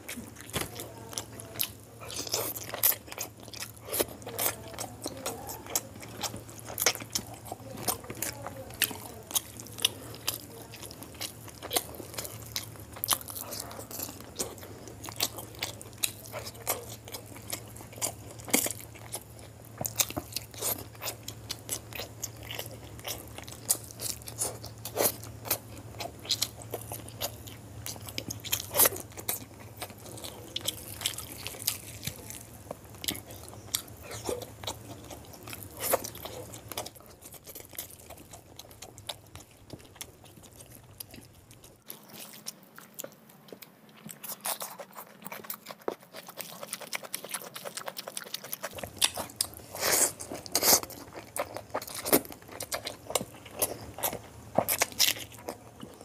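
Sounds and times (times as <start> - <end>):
close-up chewing with mouth clicks: 0.0 - 56.0
low steady hum: 0.0 - 56.0.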